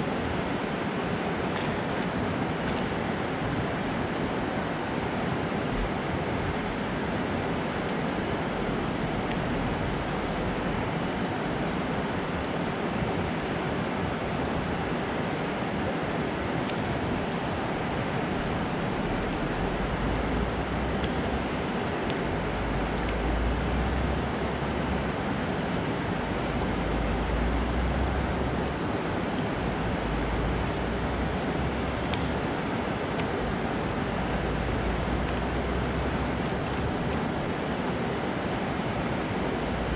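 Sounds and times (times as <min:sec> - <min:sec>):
water rushing over spillway: 0:00.0 - 0:39.9
wind rumble on microphone: 0:00.0 - 0:39.9.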